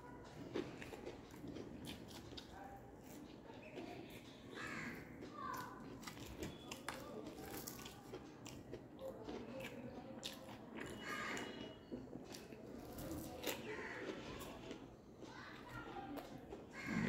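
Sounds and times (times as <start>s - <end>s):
crunchy chewing: 0.1s - 17.0s.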